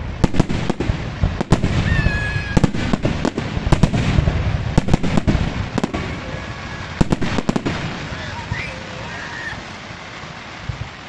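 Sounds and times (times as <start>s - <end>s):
fireworks bangs and crackles: 0.0s - 11.0s
whistling firework: 0.0s - 11.0s.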